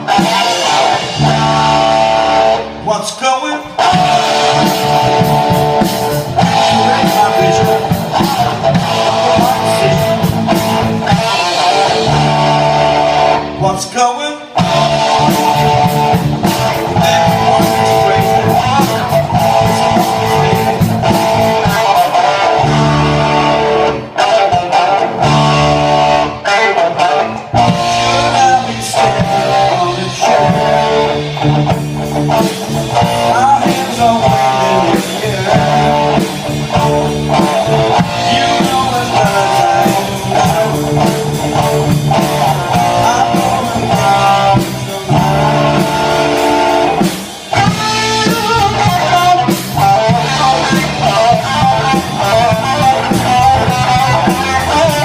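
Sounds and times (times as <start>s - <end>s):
electric guitar: 0.0s - 55.0s
live blues-rock band: 0.0s - 55.0s
person singing: 0.0s - 55.0s.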